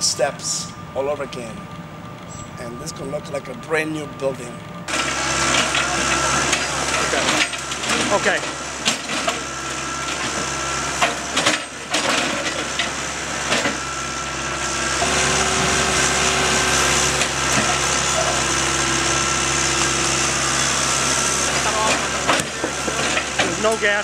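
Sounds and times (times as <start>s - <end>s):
engine humming steadily: 0.0s - 24.0s.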